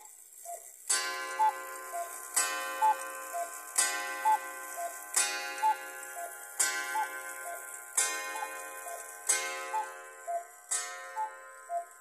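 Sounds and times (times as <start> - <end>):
cuckoo clock calling: 0.0 - 12.0
clock mechanism clack: 0.9 - 12.0.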